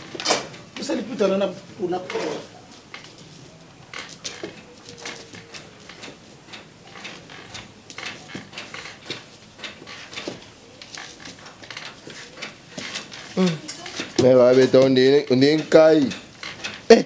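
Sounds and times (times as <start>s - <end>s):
dough worked in cooking pot: 0.0s - 17.0s.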